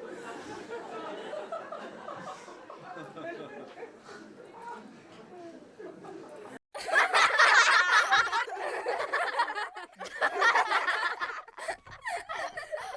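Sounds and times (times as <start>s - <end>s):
people laughing: 0.0s - 4.6s, 5.8s - 12.9s.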